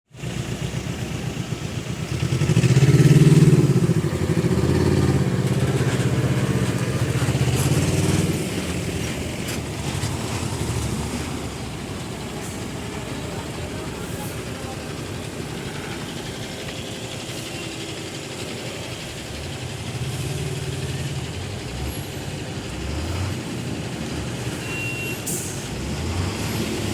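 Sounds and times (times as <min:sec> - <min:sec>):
vehicle engine running: 0:00.1 - 0:26.9.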